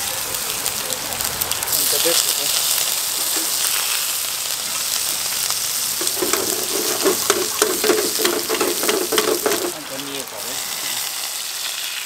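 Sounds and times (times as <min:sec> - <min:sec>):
leaves sizzling in hot oil: 0:00.0 - 0:12.0
oil crackling and popping: 0:00.0 - 0:12.0.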